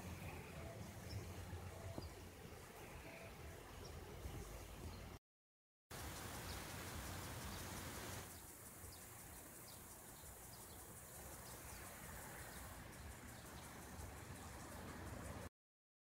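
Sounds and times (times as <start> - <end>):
low rumble and hiss: 0.0 - 5.2, 6.0 - 15.5.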